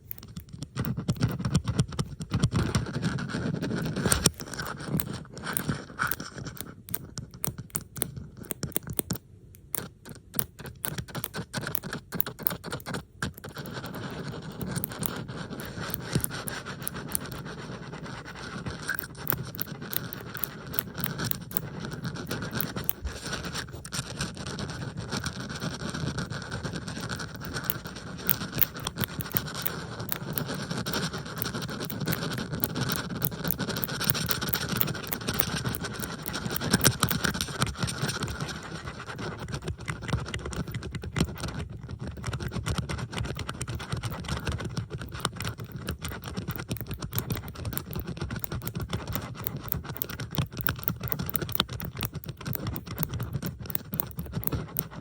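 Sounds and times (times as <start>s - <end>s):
bobby pins clicking and scratching: 0.0s - 55.0s.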